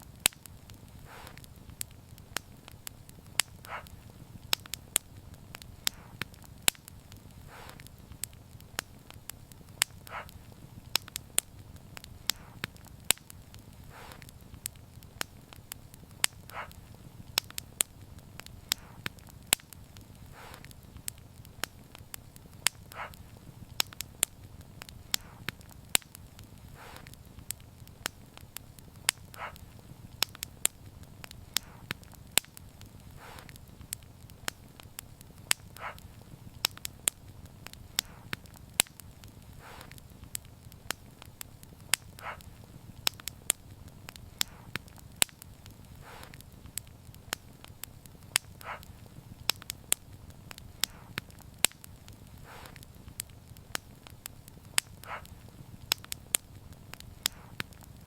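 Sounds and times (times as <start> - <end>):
low steady rumble: 0.0 - 58.0
wood fire crackling and popping: 0.0 - 58.0.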